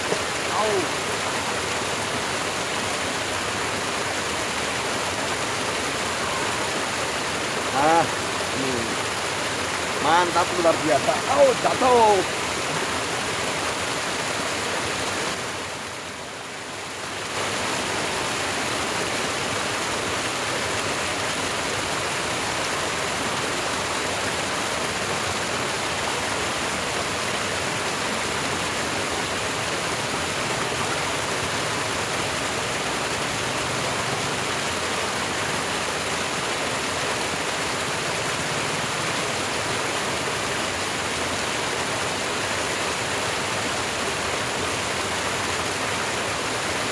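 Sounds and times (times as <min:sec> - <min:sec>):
water rushing in a ditch: 0:00.0 - 0:46.9.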